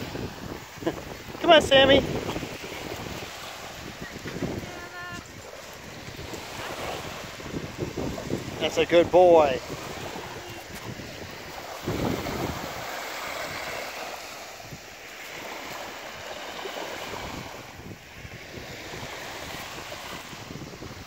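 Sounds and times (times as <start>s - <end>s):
sea waves washing onto sand: 0.0s - 21.0s
wind buffeting microphone: 0.0s - 21.0s.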